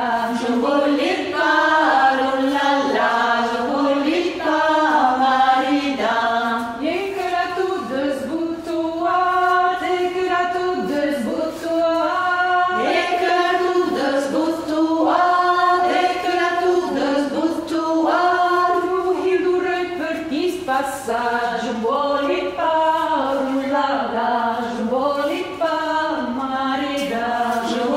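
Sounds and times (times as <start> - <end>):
women singing unaccompanied: 0.0 - 27.9.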